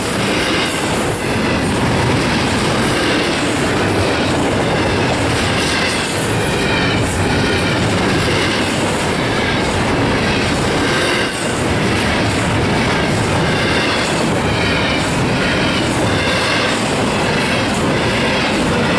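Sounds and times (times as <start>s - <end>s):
freight train wheels on rails: 0.0s - 18.9s.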